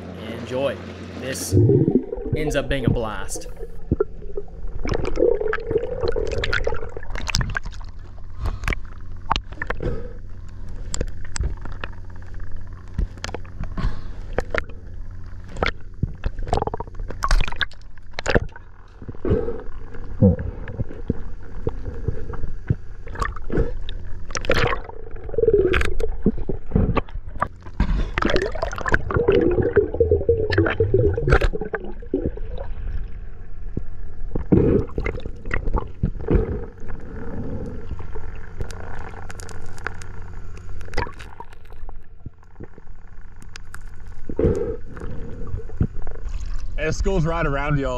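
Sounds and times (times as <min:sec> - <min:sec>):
steady low hum: 0:00.0 - 0:47.9
gurgling bubbles: 0:01.4 - 0:43.0, 0:44.2 - 0:47.9
underwater clicks and crackles: 0:01.9 - 0:46.8.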